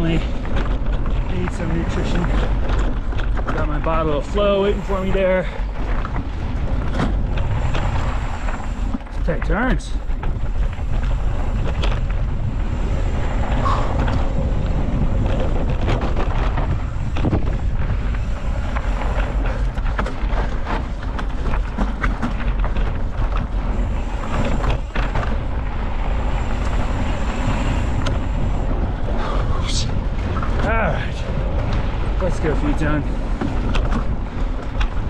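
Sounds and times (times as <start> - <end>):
bike rattling over trail: 0.0 - 35.0
wind rumbling on microphone: 0.0 - 35.0.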